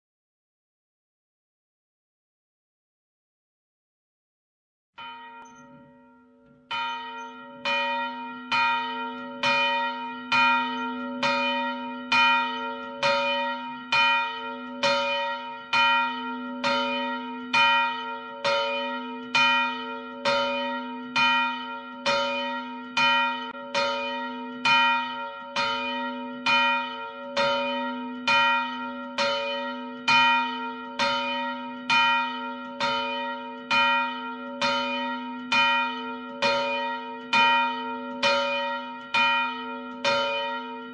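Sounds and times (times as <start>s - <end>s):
church bell tolling: 5.0s - 40.9s.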